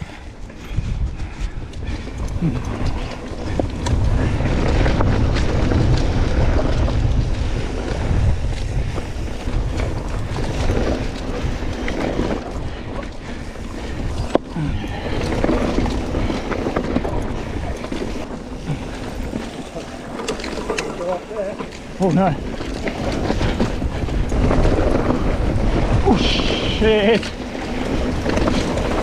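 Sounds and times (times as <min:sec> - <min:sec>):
bike tyres rumbling on dirt: 0:00.0 - 0:29.0
wind rushing over microphone: 0:00.0 - 0:29.0.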